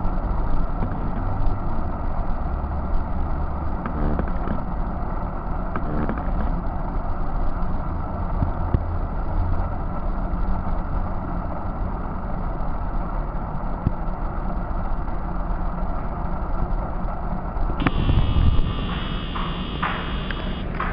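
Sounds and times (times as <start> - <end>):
subway train rumbling in tunnel: 0.0 - 3.8, 6.6 - 20.9.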